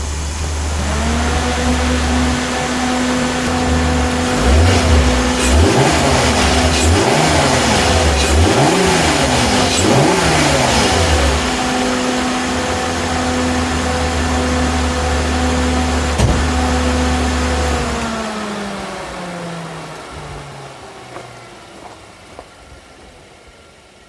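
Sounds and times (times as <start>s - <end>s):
engine idling and revving: 0.0s - 22.6s.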